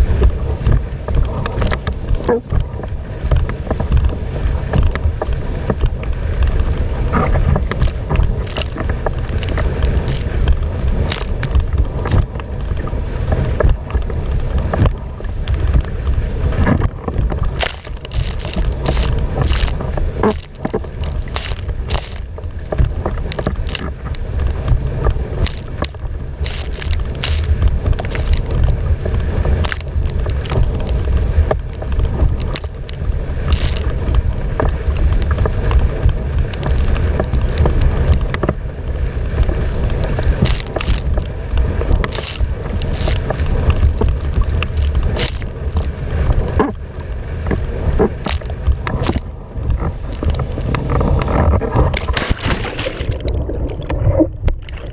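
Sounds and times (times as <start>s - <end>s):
water rushing and splashing: 0.0s - 54.9s
wind noise on microphone: 0.0s - 54.9s.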